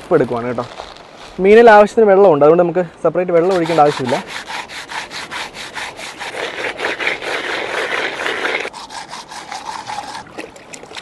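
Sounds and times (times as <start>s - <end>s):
fish rubbed with salt on rock: 0.0s - 1.9s, 3.3s - 10.5s.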